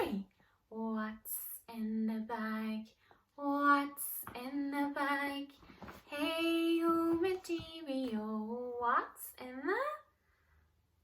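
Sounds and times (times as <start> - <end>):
woman singing unaccompanied: 0.1 - 9.9.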